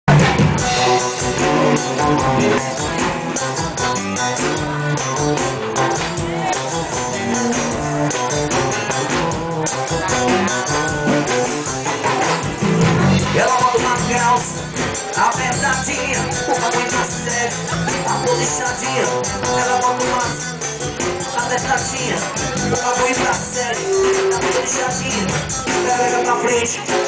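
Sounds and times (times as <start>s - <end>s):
band playing upbeat dance music: 0.1s - 27.0s.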